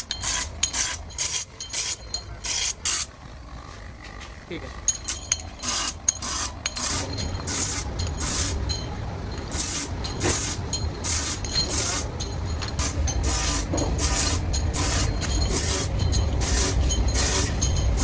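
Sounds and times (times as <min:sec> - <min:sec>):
hissing rasping machine strokes: 0:00.0 - 0:08.6, 0:09.5 - 0:18.0
low machinery rumble: 0:00.0 - 0:18.0.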